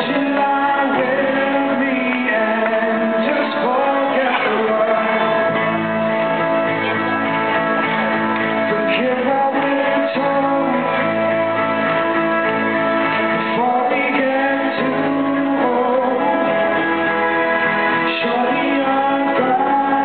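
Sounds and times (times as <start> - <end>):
man singing: 0.0 - 6.4, 8.5 - 20.0
acoustic guitar: 0.0 - 20.0.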